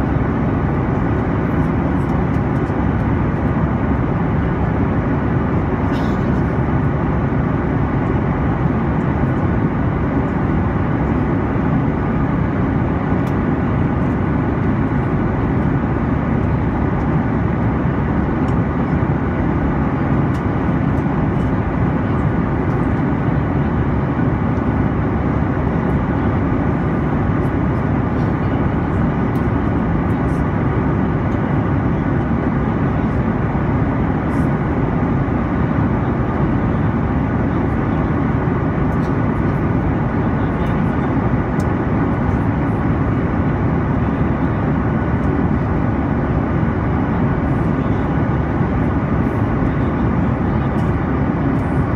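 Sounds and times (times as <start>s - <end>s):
airliner cabin rumble and hiss: 0.0s - 51.9s.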